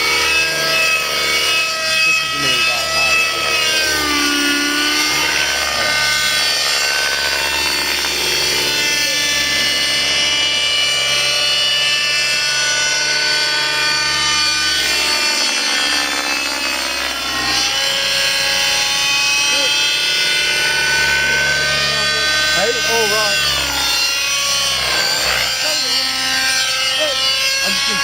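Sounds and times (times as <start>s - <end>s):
model helicopter engine and rotors: 0.0s - 28.0s.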